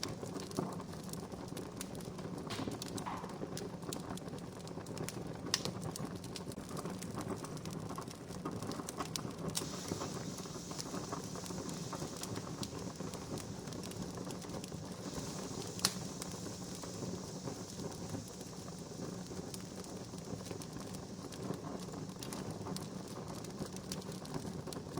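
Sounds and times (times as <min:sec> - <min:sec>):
campfire hissing and crackling: 0:00.0 - 0:24.9
sharp fire pops: 0:00.0 - 0:24.9.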